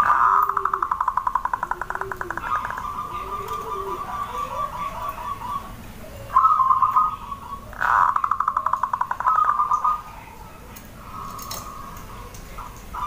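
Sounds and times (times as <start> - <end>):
dove cooing in trilled notes: 0.0 - 13.0
faint low gliding bird calls: 0.0 - 13.0.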